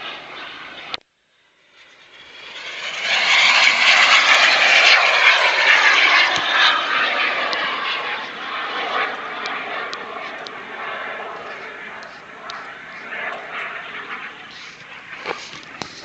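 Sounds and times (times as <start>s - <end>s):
model jet engine rushing: 0.0s - 16.0s.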